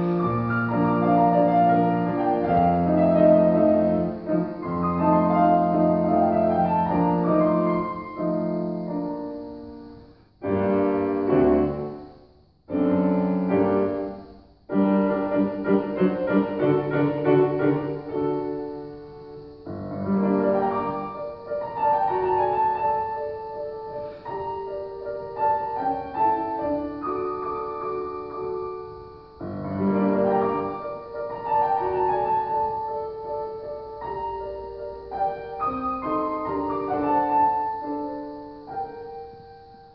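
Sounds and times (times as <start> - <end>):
solo grand piano classical piece: 0.0 - 39.9.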